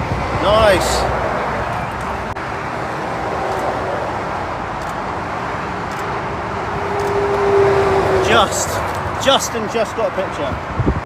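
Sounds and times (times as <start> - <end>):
vehicle passing close: 0.0 - 9.4
motorway traffic roar: 0.0 - 11.0.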